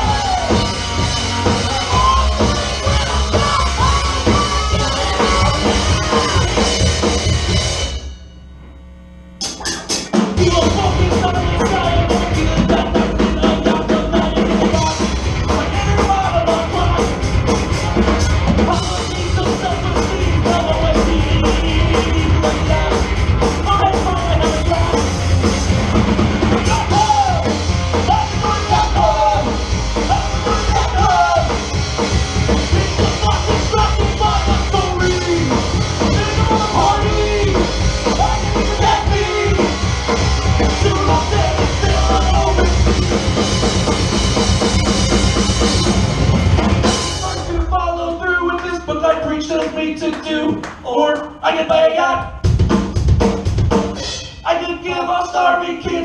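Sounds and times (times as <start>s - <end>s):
live rock band playing: 0.0s - 8.4s, 9.4s - 48.3s, 52.4s - 54.4s.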